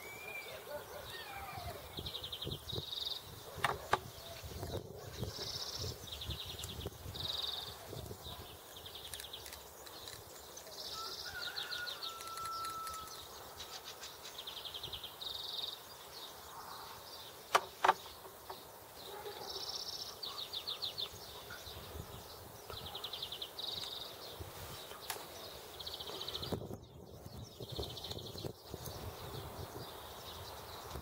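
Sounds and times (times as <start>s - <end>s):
small bird singing: 0.0s - 31.0s.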